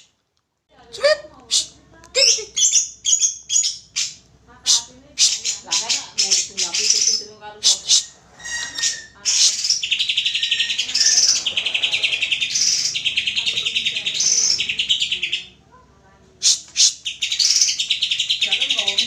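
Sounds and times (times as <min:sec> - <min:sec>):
bird singing chattering song: 0:01.5 - 0:15.6, 0:16.4 - 0:19.0.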